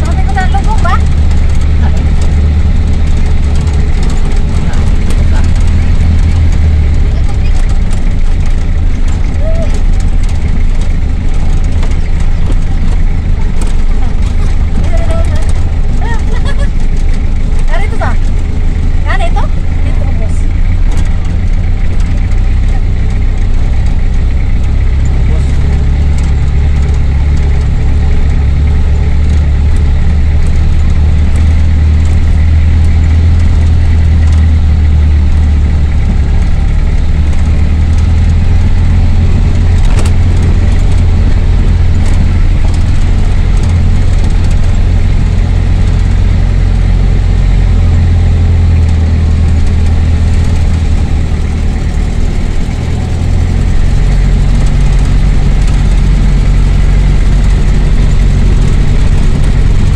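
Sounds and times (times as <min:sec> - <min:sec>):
vehicle engine and road drone: 0:00.0 - 0:59.9.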